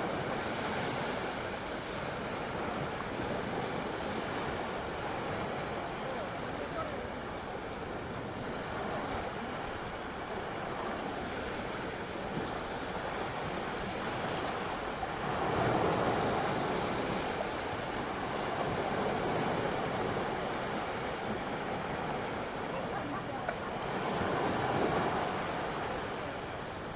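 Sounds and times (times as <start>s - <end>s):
sea waves washing onto shore: 0.0s - 26.9s.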